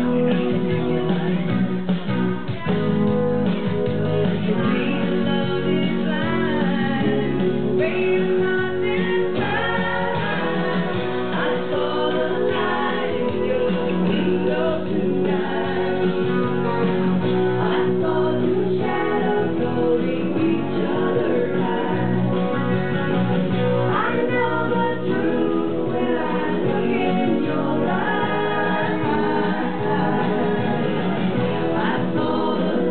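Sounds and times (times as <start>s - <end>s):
amplified backing music with guitar: 0.0s - 32.9s
woman singing into microphone: 3.8s - 22.9s, 23.8s - 32.9s.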